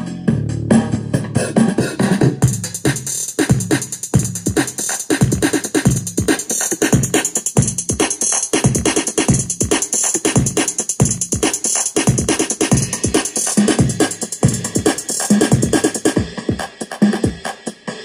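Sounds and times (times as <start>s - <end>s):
music with electronic drum beat: 0.0s - 18.0s.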